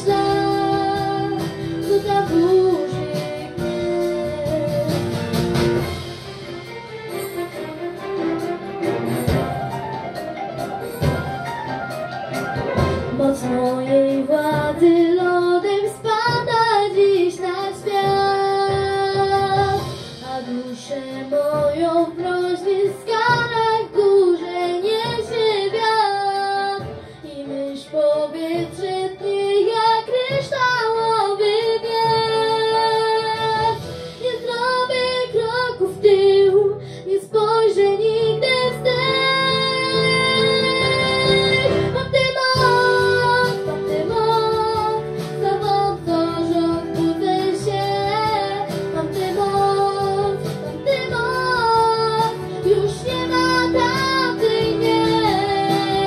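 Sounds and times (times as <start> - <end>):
girl singing into microphone: 0.0 - 5.1, 13.1 - 56.0
instrumental backing track: 0.0 - 56.0.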